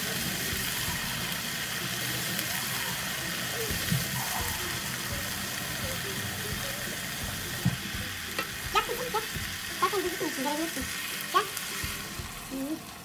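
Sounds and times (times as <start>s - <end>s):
rice sizzling in a frying pan: 0.0s - 13.0s.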